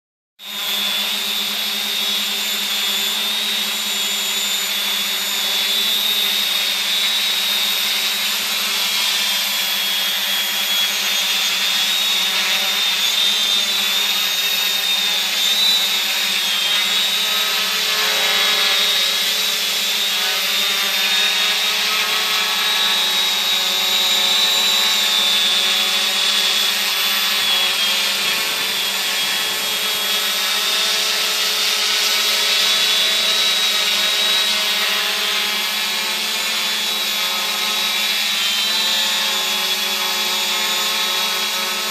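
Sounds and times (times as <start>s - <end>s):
drone motors buzzing: 0.4s - 41.9s.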